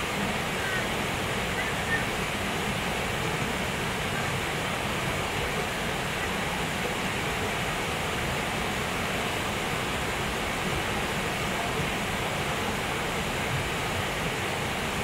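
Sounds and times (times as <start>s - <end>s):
creek rushing over boulders: 0.0s - 15.0s.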